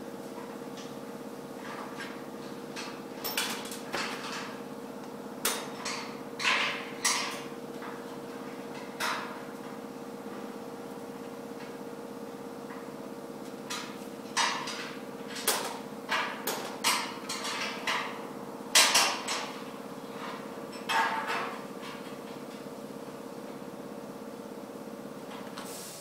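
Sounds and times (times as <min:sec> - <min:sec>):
steady machine hum: 0:00.0 - 0:25.5.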